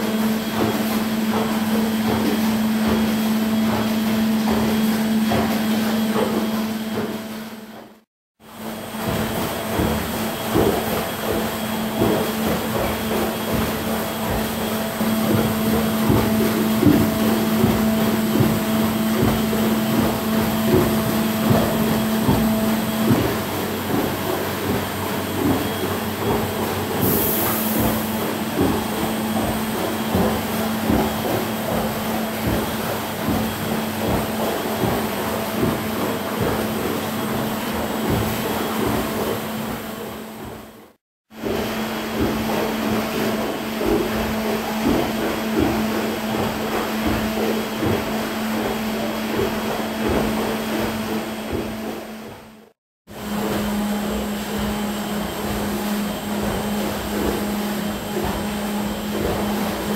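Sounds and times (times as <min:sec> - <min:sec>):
treadmill machine hum: 0:00.0 - 0:59.9
water churning and splashing: 0:00.0 - 0:59.9.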